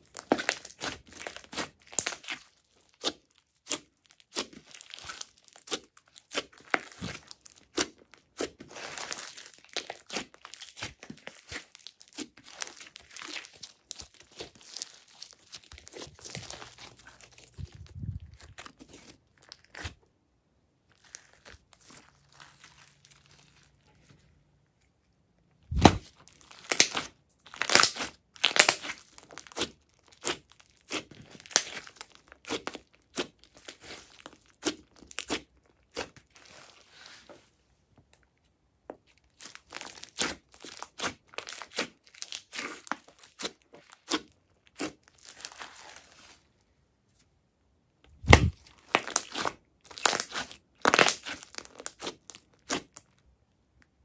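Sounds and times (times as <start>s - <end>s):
slime crackling and popping: 0.0s - 20.0s, 25.7s - 37.2s, 39.0s - 46.5s, 48.1s - 53.3s.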